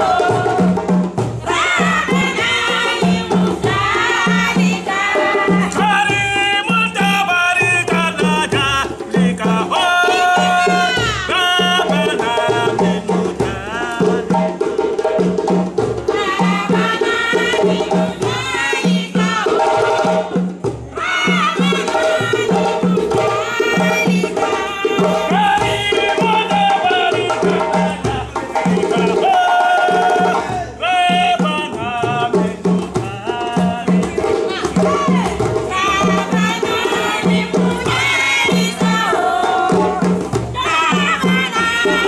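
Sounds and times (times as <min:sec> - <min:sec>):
drum ensemble playing rhythm: 0:00.0 - 0:42.0.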